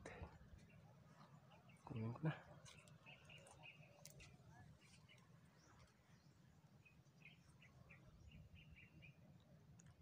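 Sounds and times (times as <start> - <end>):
faint high bird chirps: 0.6 - 9.6.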